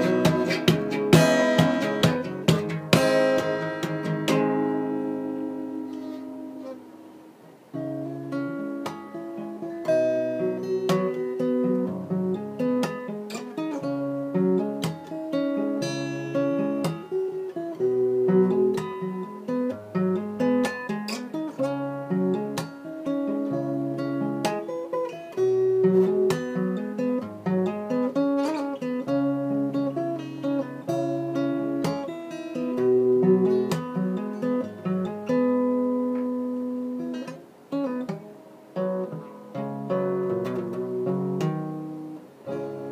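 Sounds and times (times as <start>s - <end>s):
plucked string instrument melody: 0.0s - 42.9s.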